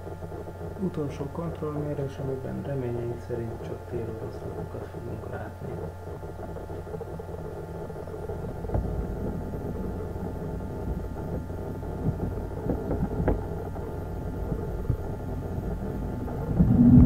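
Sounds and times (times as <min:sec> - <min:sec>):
small clicks and ticks: 0:00.0 - 0:16.6
faint whining tones: 0:00.0 - 0:17.0
turntable drive humming and rumbling: 0:00.0 - 0:17.0.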